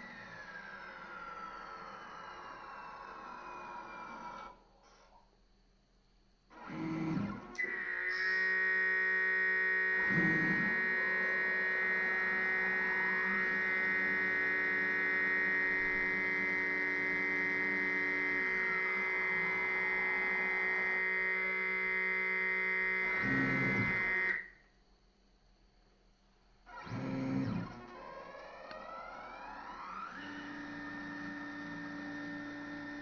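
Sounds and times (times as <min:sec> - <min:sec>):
stepper motors whining: 0:00.0 - 0:05.2, 0:06.5 - 0:24.6, 0:26.7 - 0:33.0.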